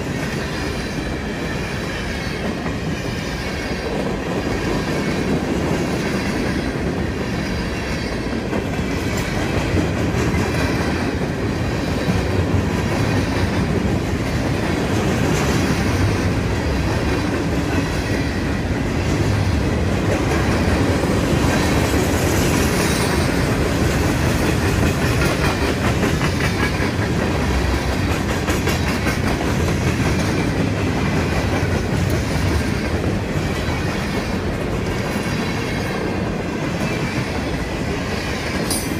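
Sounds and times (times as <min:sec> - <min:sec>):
clickety-clack over rail joints: 0:00.0 - 0:38.9
train wheels rumbling on rail: 0:00.0 - 0:38.9.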